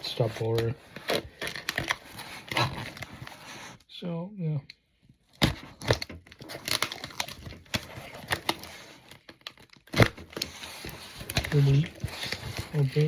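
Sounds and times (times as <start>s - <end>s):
cardboard package rustling and tearing: 0.0s - 3.8s, 5.4s - 13.0s.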